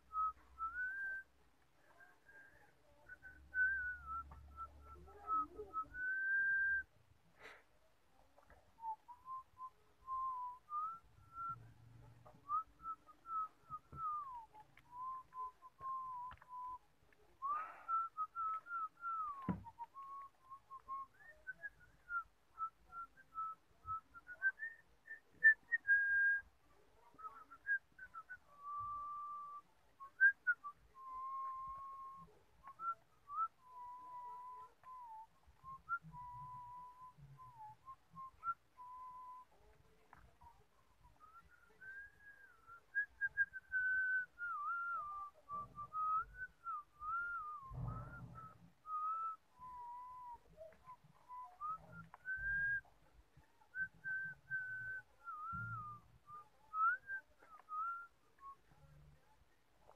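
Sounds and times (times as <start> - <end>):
person whistling a tune: 0.0 - 7.6, 8.4 - 59.9.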